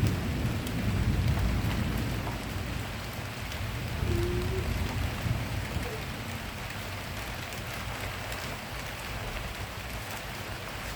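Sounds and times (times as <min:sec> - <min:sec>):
steady rain falling: 0:00.0 - 0:10.9
thunder rumbling: 0:00.0 - 0:10.9.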